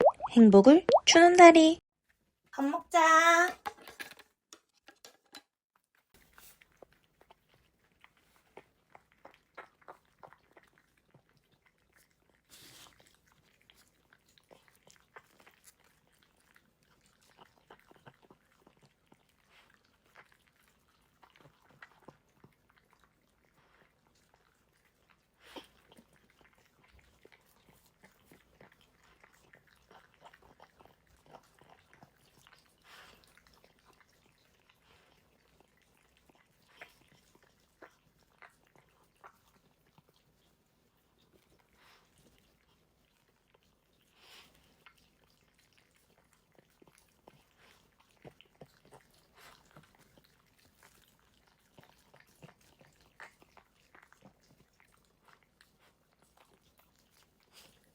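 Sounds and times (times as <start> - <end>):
dog chewing food: 5.9 - 57.9.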